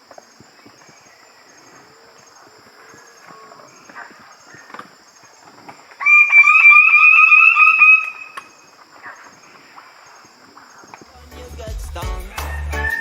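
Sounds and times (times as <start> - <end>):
bird calling: 0.0 - 11.1.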